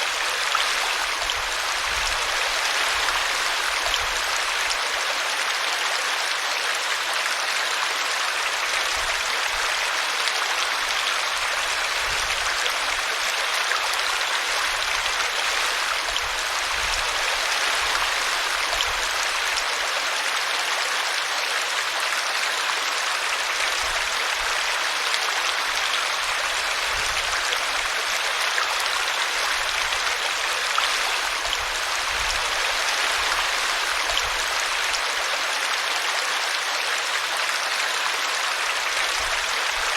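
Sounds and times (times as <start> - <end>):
brook flowing water: 0.0 - 39.9.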